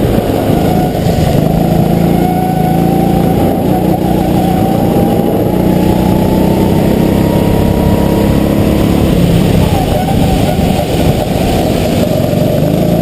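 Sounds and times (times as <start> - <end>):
go-kart engine accelerating: 0.0 - 13.0.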